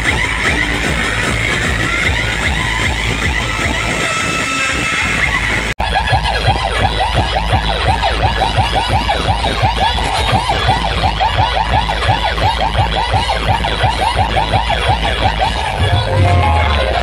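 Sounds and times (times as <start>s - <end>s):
heavy bass beat: 0.0s - 17.0s.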